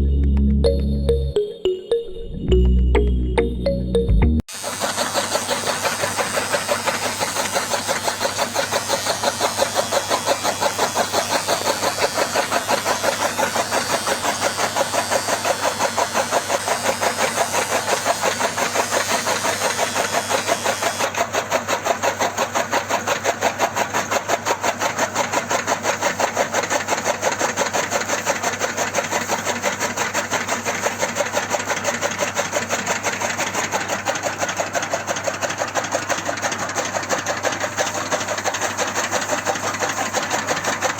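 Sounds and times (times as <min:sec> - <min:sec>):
small motor with fast clatter: 0:04.5 - 0:40.9.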